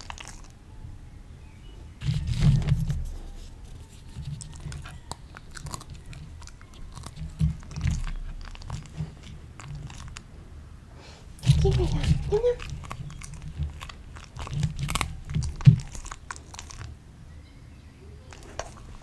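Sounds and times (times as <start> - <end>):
dog crunching pea pods: 0.0 - 0.6, 2.0 - 10.4, 11.3 - 17.0, 18.3 - 19.0.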